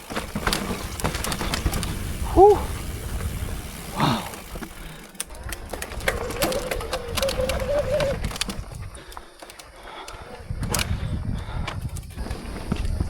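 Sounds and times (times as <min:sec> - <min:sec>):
bike rattling over rough trail: 0:00.0 - 0:13.0.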